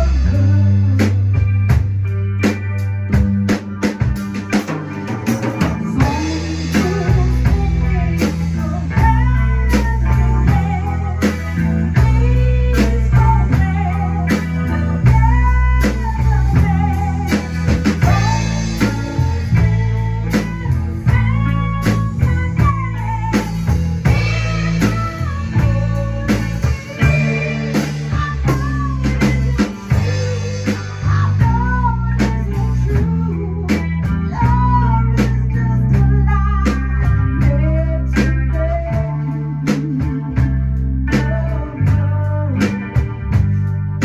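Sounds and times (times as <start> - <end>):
bass: 0.0 - 44.0
drums: 0.0 - 44.0
electric guitar lead: 0.0 - 44.0.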